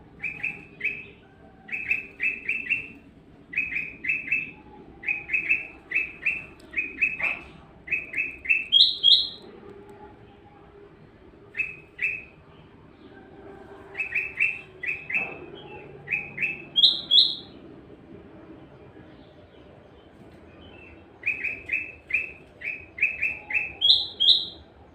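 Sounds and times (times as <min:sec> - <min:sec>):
bird chirping song: 0:00.0 - 0:09.5, 0:11.5 - 0:17.6, 0:18.8 - 0:24.9.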